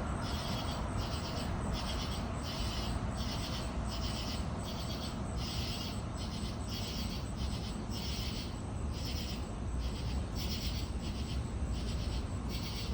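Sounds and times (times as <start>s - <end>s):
night insects chirping: 0.0s - 12.9s.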